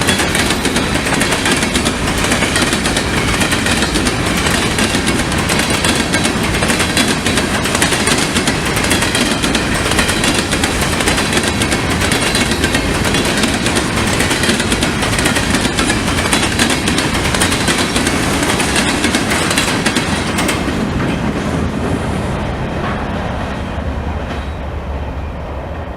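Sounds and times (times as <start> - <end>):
wheels clacking over rail joints: 0.0 - 21.9
freight train rumbling past: 0.0 - 25.9.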